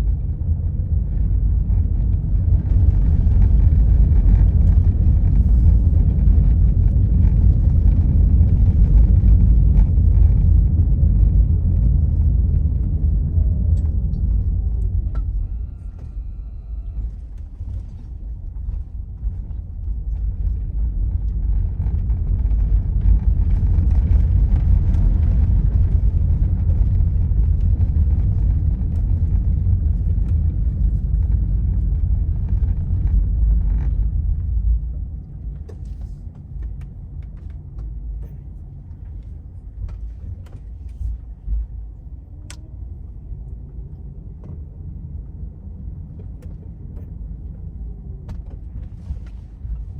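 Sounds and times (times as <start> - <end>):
car road and engine rumble: 0.0 - 49.9.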